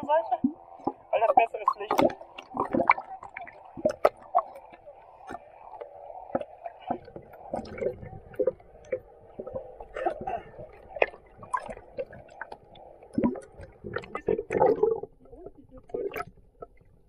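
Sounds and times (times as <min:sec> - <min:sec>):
water splashes: 0:00.0 - 0:17.0.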